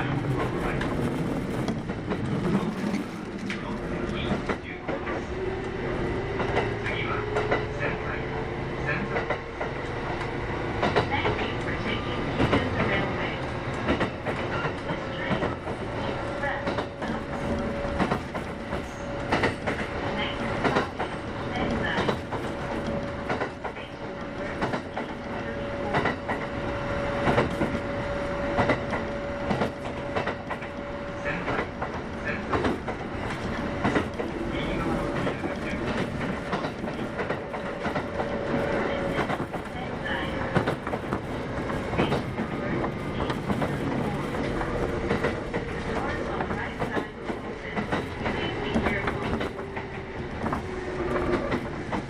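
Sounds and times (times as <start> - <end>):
track clicks and clacks: 0.0 - 8.0, 8.9 - 52.0
train wheels rumbling: 0.0 - 52.0.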